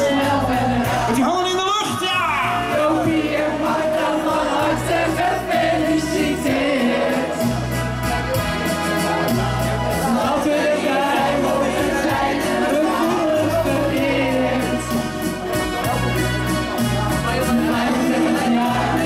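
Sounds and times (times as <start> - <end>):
group singing: 0.0 - 1.3, 2.4 - 8.2, 8.9 - 15.5, 17.0 - 19.0
bass line: 0.0 - 19.0
instrumental accompaniment: 2.4 - 19.0.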